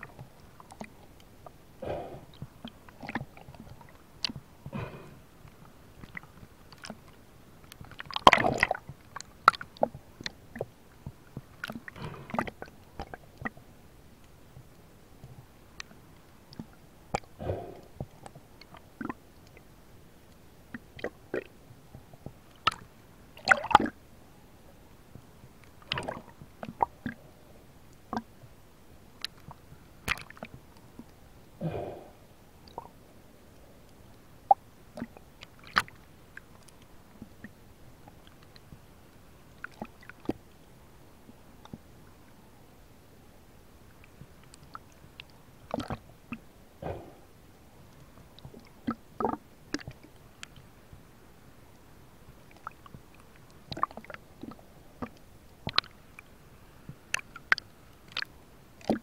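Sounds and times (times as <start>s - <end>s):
water sloshing and gurgling: 0.0s - 13.8s, 14.6s - 19.8s, 20.7s - 24.0s, 25.1s - 27.4s, 29.1s - 33.1s, 34.4s - 38.9s, 39.5s - 40.6s, 43.9s - 51.1s, 52.3s - 59.0s.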